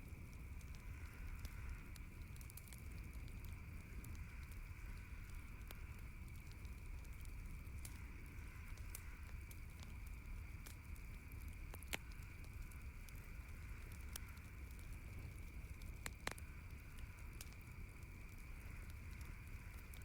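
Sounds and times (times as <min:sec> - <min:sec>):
campfire crackling and popping: 0:00.0 - 0:20.0
low background hiss: 0:00.0 - 0:20.0.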